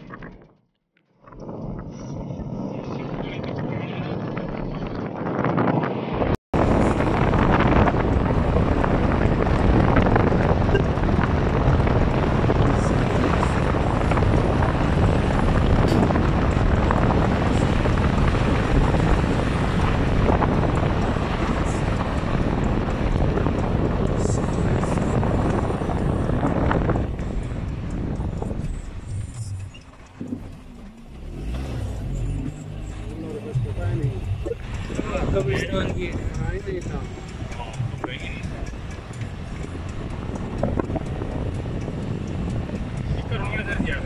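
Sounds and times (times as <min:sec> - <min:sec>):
wind buffeting microphone: 0:01.2 - 0:44.0.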